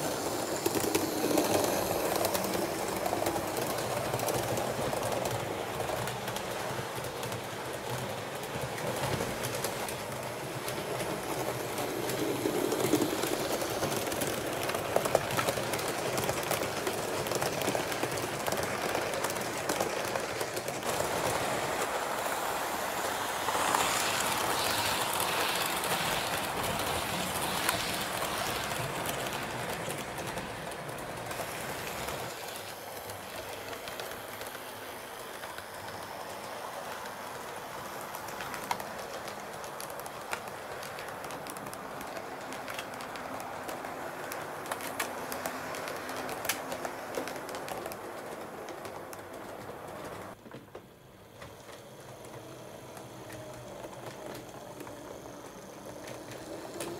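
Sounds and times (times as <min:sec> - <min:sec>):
model train rolling rattle: 0:00.0 - 0:56.9
wheels clicking on rails: 0:00.0 - 0:56.9.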